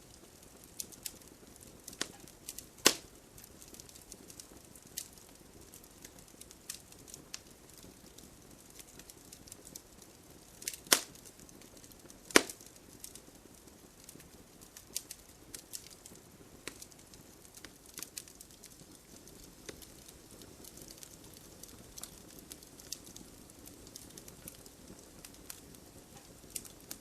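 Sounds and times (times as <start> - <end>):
campfire crackling and popping: 0.0 - 27.0
faint hiss of burning: 0.0 - 27.0.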